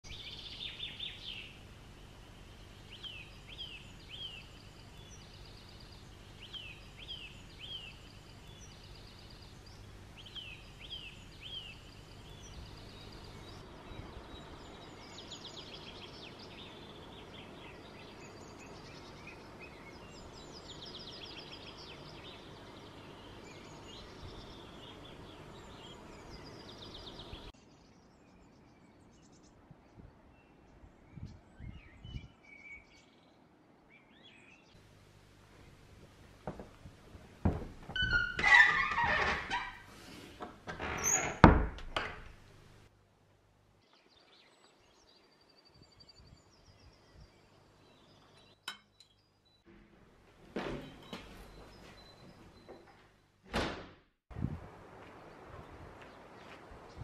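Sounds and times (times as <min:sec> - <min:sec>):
songbirds singing: 0:00.0 - 0:42.8, 0:43.7 - 0:49.7, 0:50.6 - 0:53.4, 0:55.0 - 0:57.0.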